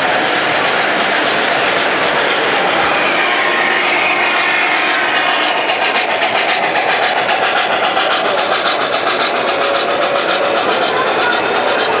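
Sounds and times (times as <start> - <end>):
steady rolling whir: 0.0 - 12.0
train wheels clicking over rail joints: 0.0 - 12.0.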